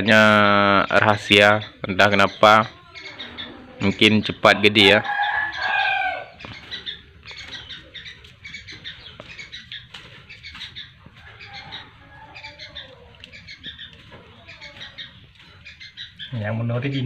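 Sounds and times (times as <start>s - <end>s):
young birds cheeping: 0.0s - 17.0s.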